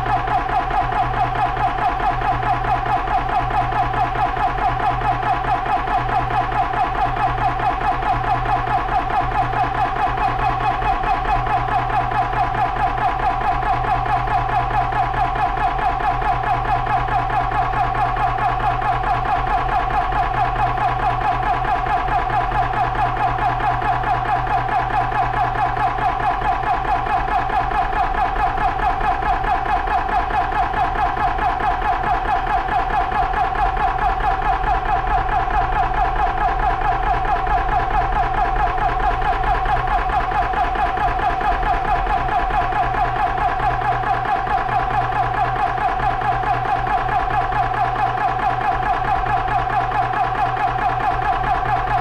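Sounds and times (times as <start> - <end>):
air compressor pulsing hum: 0.0 - 52.0.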